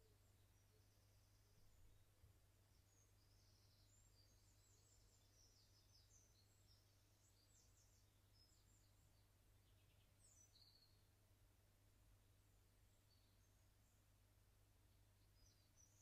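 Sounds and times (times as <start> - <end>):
small birds chirping and trilling: 0.0 - 11.2, 12.6 - 14.2, 15.0 - 16.0.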